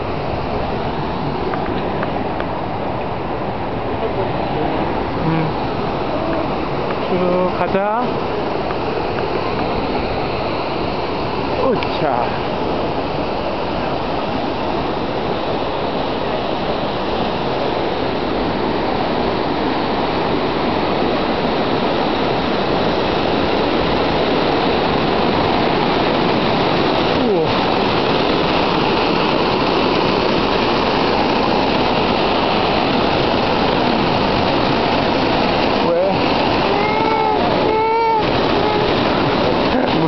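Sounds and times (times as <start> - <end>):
waterfall rushing and splashing: 0.0 - 40.0.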